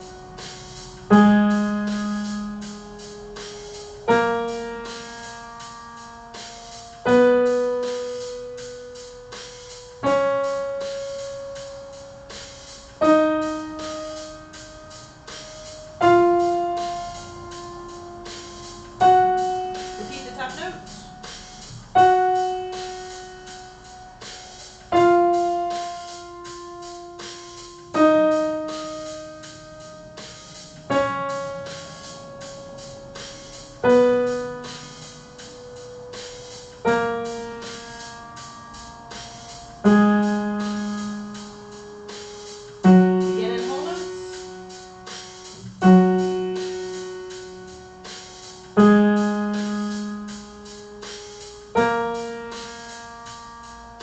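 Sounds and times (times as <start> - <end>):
piano playing a slow scale: 0.0 - 54.0.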